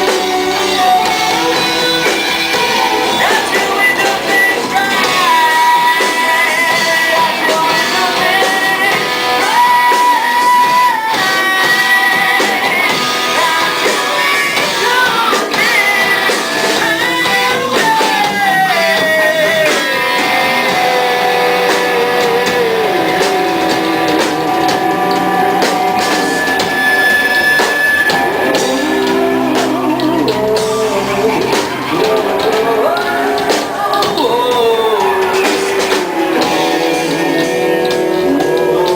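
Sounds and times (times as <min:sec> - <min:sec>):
rock music with guitars: 0:00.0 - 0:38.9.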